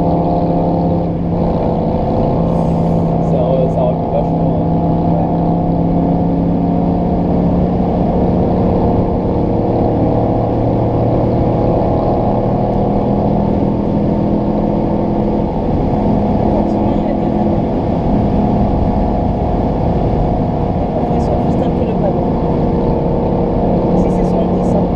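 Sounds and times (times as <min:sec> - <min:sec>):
car engine droning at cruise: 0:00.0 - 0:24.9.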